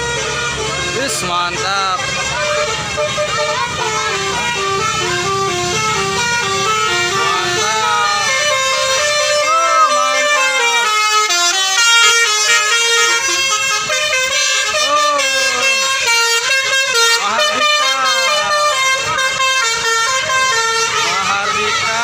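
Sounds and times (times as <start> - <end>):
musical bus air horns: 0.0 - 22.0.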